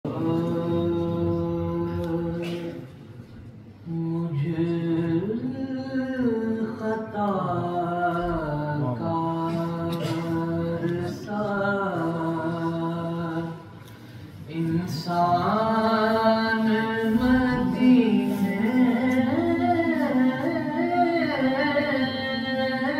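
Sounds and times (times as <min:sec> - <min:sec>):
man singing devotional song: 0:00.1 - 0:03.0, 0:03.8 - 0:22.9.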